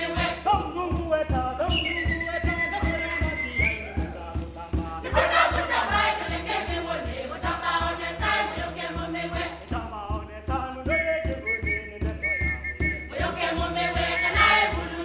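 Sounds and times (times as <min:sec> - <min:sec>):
group of voices singing: 0:00.0 - 0:12.1, 0:12.9 - 0:15.0.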